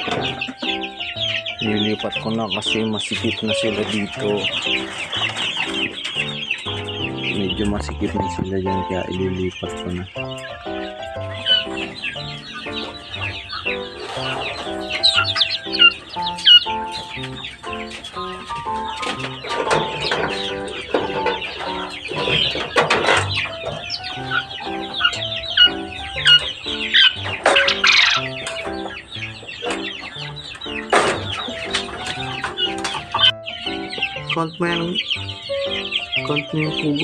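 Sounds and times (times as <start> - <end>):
background music melody: 0.0 - 37.0
quails peeping: 0.0 - 37.0.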